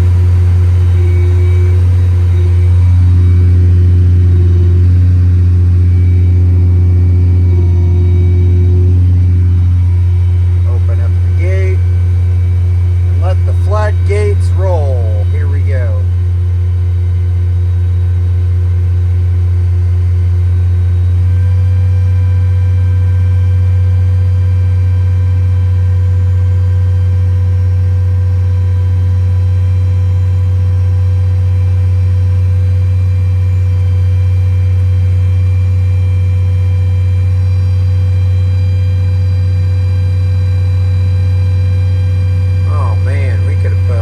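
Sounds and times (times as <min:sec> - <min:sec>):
heavy diesel engine drone: 0:00.0 - 0:44.0.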